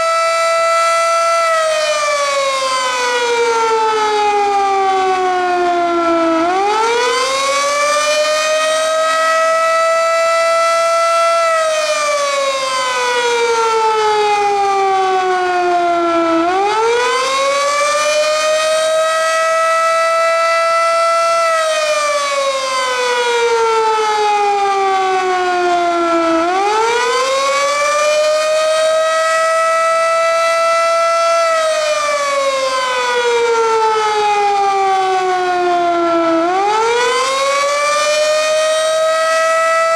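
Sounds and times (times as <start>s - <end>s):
warning siren rising and falling: 0.0s - 39.9s.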